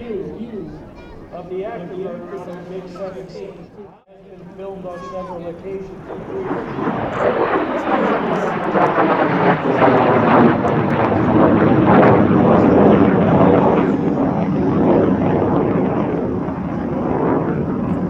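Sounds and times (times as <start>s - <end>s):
jet engine low pass: 0.0s - 18.0s.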